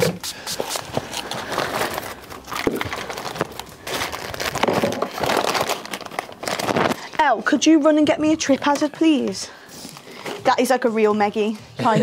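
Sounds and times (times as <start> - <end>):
rustling and crinkling: 0.0 - 10.7.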